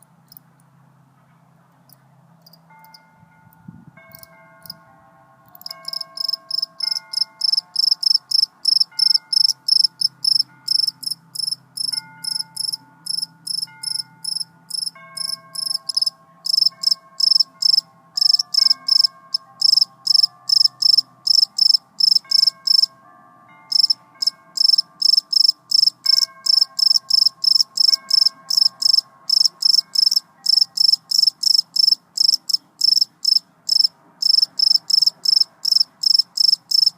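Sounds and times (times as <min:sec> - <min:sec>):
cricket chirping: 0:01.9 - 0:03.1, 0:05.5 - 0:22.9, 0:23.7 - 0:36.9.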